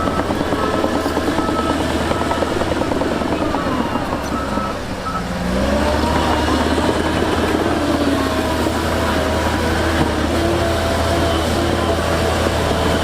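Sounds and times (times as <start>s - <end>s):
heavy diesel engine running hard: 0.0s - 13.0s.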